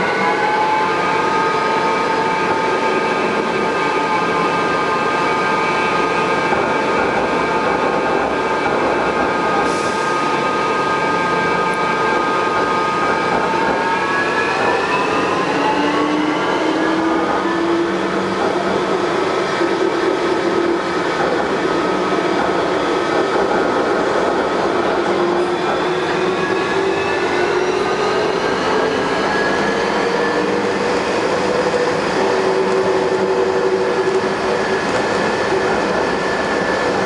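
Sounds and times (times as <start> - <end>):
metro train running: 0.0 - 37.0.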